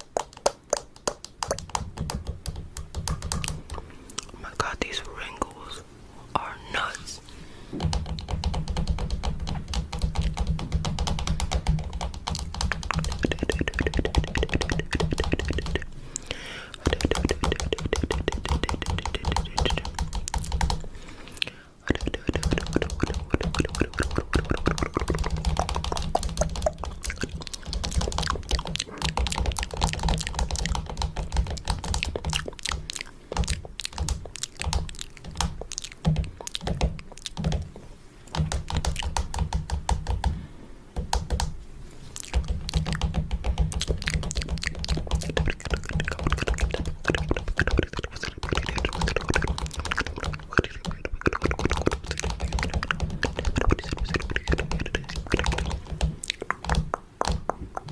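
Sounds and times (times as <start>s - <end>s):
fingernails tapping on camera: 0.0s - 3.8s, 7.8s - 15.9s, 16.8s - 20.8s, 21.9s - 37.7s, 38.3s - 40.4s, 42.3s - 57.9s.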